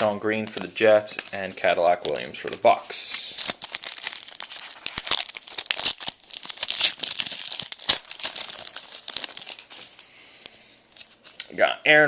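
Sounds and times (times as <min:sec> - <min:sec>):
card pack wrapper tearing and crinkling: 0:00.0 - 0:10.1, 0:10.9 - 0:11.6.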